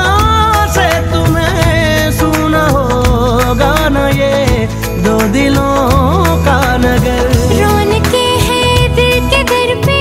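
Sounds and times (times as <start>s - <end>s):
film song music with beat: 0.0s - 10.0s.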